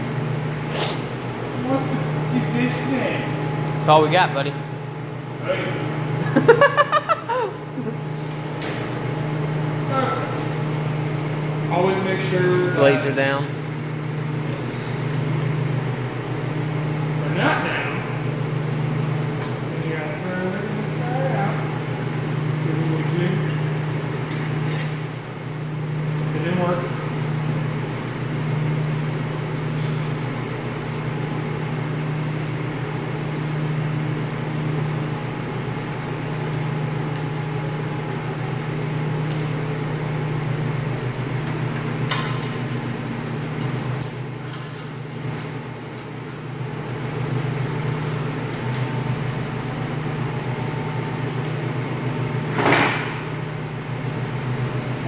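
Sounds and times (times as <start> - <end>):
refrigeration hum: 0.0 - 55.0.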